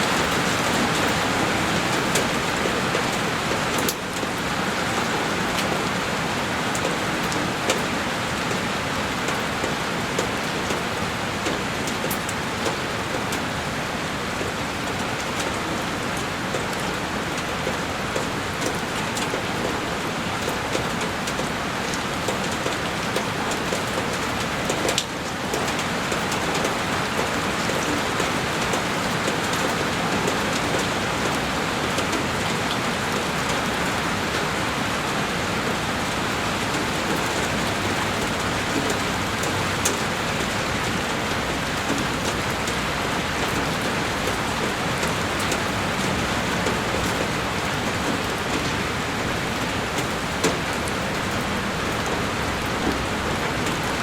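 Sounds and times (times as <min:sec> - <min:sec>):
heavy rain on a window: 0:00.0 - 0:54.0.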